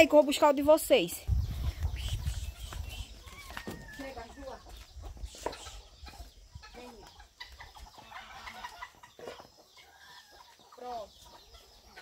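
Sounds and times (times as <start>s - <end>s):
chickens clucking: 0.0s - 12.0s
faint farmyard background: 0.0s - 12.0s.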